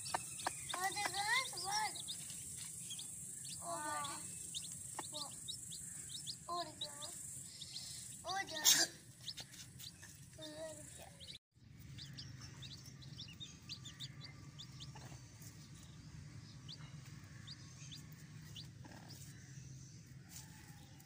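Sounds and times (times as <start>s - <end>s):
chicks peeping: 0.0s - 19.3s.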